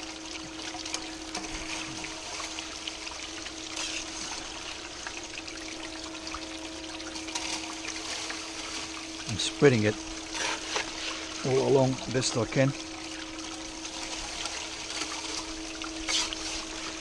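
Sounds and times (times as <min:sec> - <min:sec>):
pump motor hum: 0:00.0 - 0:17.0
water rushing down sluice: 0:00.0 - 0:17.0.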